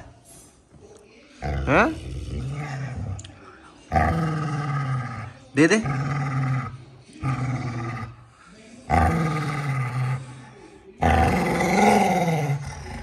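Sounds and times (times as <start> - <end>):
dog growling: 1.4 - 13.0.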